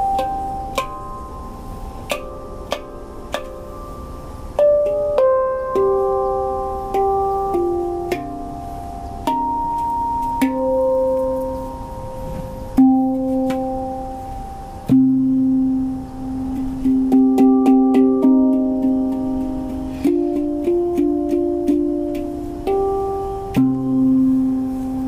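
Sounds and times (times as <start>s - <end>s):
handpan notes ringing: 0.0s - 25.0s.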